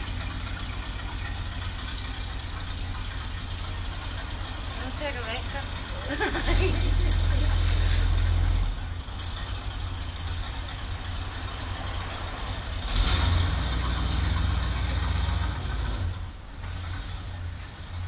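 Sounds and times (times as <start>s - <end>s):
van engine running: 0.0s - 18.0s.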